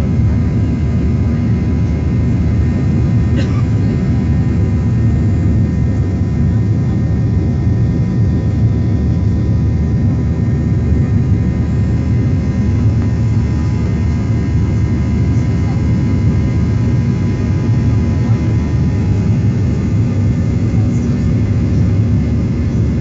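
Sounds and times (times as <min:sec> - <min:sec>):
faint engine whine: 0:00.0 - 0:23.0
jet engines deep rumble: 0:00.0 - 0:23.0.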